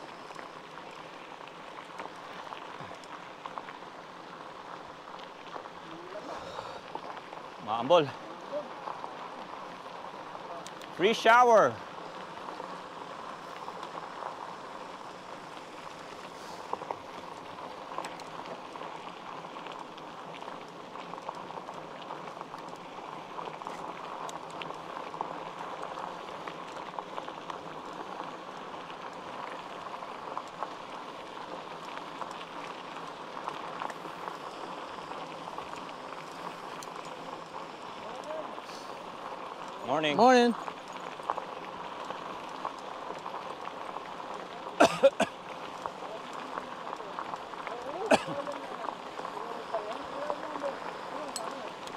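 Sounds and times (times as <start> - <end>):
light rain hissing: 0.0 - 51.9
raindrops ticking: 0.0 - 51.9.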